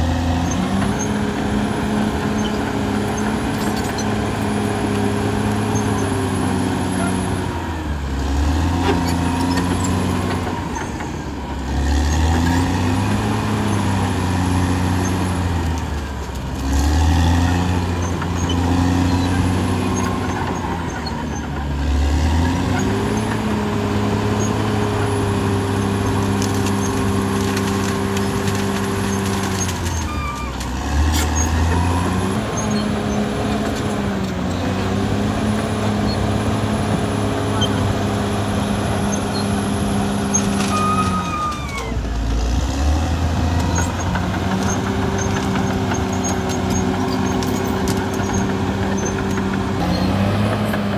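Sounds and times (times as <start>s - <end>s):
bulldozer diesel engine working: 0.0s - 50.9s.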